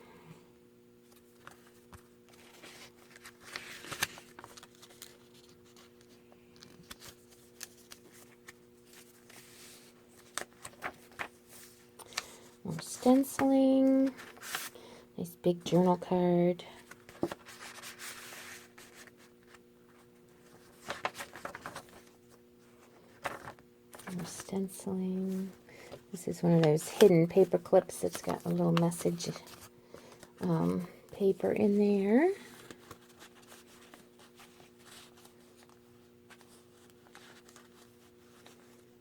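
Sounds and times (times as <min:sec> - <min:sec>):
faint steady hum: 0:00.0 - 0:39.0
paper pages rustling: 0:01.0 - 0:14.8, 0:16.7 - 0:24.5, 0:25.2 - 0:30.5, 0:31.3 - 0:39.0.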